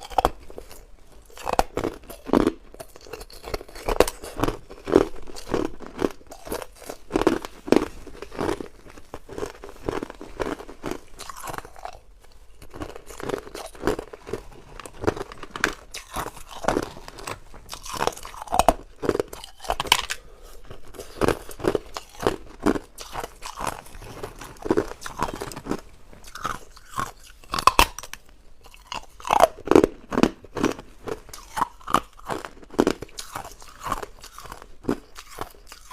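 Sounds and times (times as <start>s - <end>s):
ice cubes being chewed: 0.0s - 35.9s.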